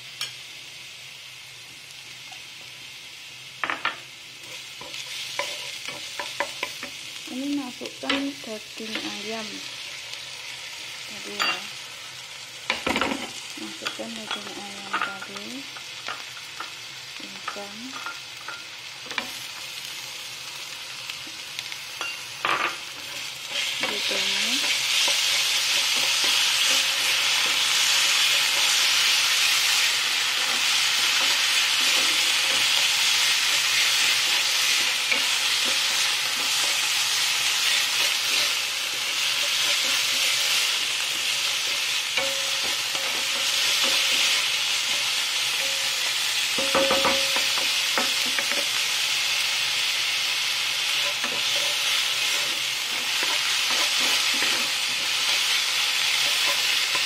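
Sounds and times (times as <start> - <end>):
food sizzling in hot oil: 0.0 - 57.0
wooden spatula stir-frying: 3.6 - 57.0.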